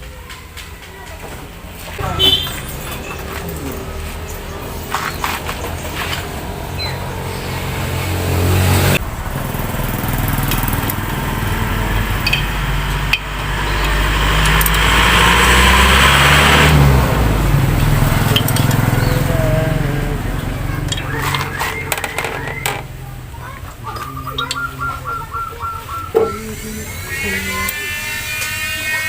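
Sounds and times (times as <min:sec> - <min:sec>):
small engine running: 0:02.0 - 0:25.2, 0:26.1 - 0:29.0.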